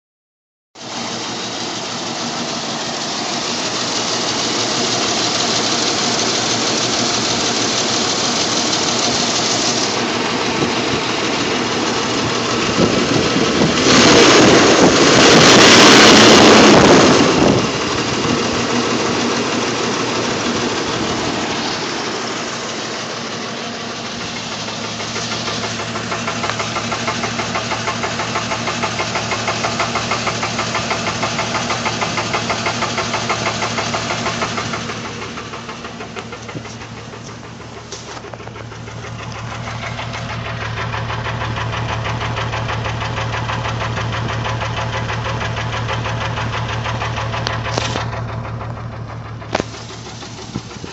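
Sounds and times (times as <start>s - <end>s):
engine running with misfire: 0.8s - 50.9s.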